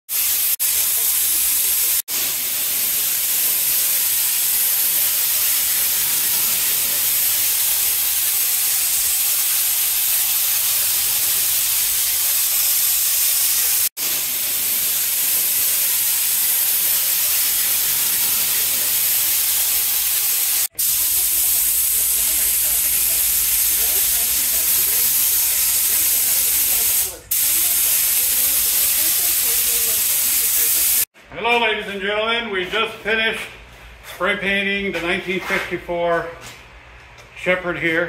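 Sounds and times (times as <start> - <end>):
spray gun hissing: 0.1 - 31.1.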